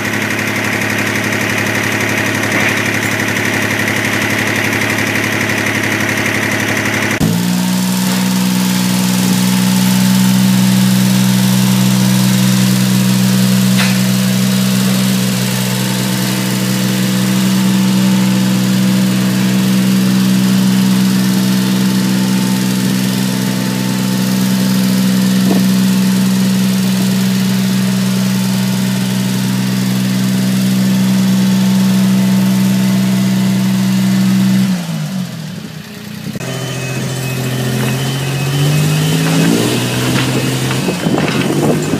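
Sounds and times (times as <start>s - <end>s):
machine engine running: 0.0s - 41.9s.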